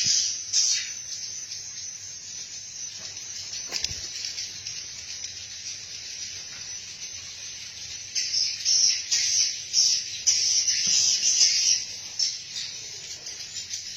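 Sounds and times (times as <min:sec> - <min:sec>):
swiftlets twittering: 0:00.2 - 0:13.9.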